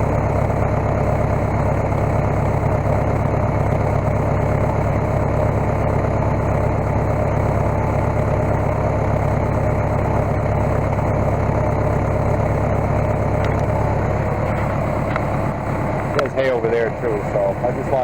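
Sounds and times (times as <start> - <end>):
skid steer engine idling: 0.0 - 18.0.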